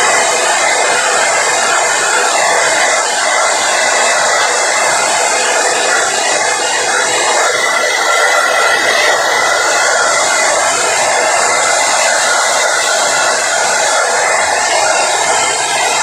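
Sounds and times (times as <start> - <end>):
hair dryer blowing air: 0.0 - 16.0.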